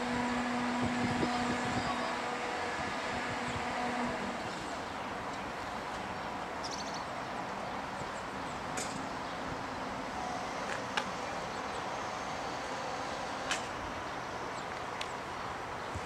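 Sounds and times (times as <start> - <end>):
electric train running: 0.0 - 6.6, 7.4 - 16.0.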